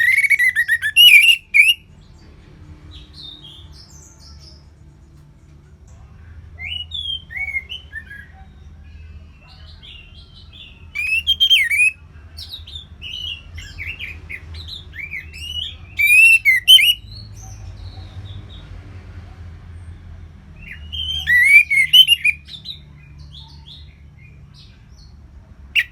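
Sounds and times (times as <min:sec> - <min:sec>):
songbird singing: 0:00.0 - 0:18.8, 0:20.6 - 0:25.9.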